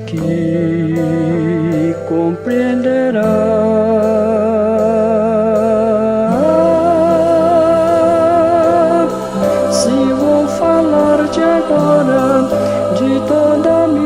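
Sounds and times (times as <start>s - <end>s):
bass and accompaniment: 0.0s - 14.0s
gospel singing with vibrato: 0.0s - 14.0s.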